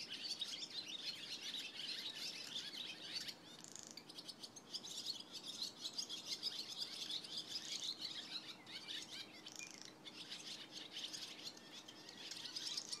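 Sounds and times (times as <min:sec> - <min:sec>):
swallows twittering: 0:00.0 - 0:13.0.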